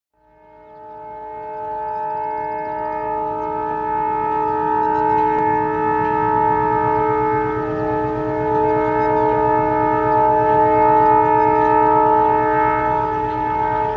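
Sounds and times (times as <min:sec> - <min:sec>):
locomotive air horn hooting: 0:00.2 - 0:13.9.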